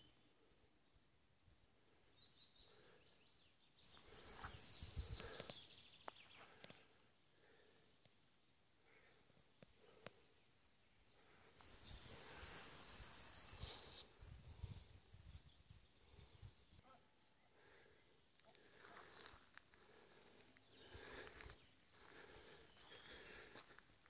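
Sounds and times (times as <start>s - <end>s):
faint bird calls: 1.9s - 14.2s, 15.8s - 23.8s.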